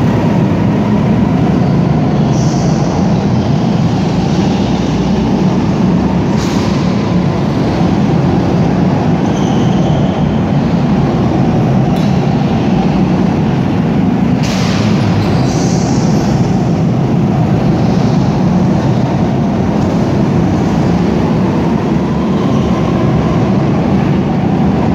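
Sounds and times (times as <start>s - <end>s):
go-kart engines running: 0.0s - 24.9s.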